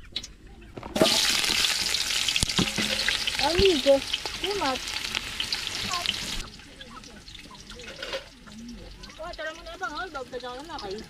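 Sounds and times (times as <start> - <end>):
onions sizzling in oil: 0.9 - 11.0.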